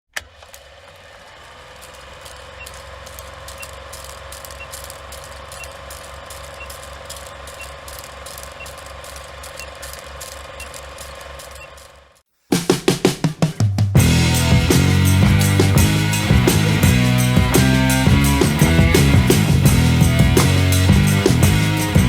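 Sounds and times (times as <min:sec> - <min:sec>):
vehicle engine running: 0:00.3 - 0:12.2, 0:14.0 - 0:22.0
rapid ticking rattle: 0:00.9 - 0:12.1, 0:13.2 - 0:22.0.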